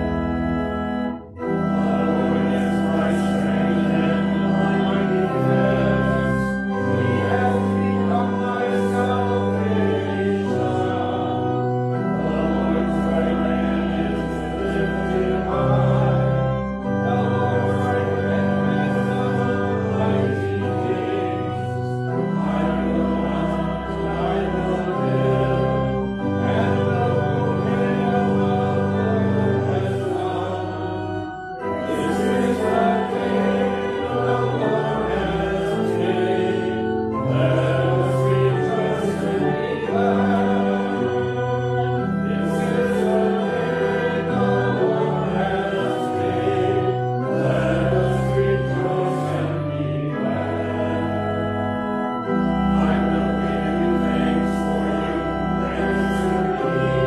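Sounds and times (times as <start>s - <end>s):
sustained instrumental accompaniment: 0.0s - 57.0s
voices singing a psalm: 0.0s - 57.0s.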